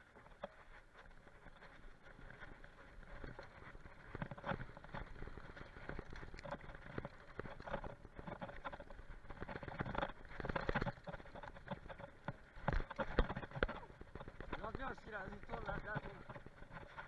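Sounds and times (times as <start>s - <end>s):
bike knocking and rattling: 0.0s - 17.0s.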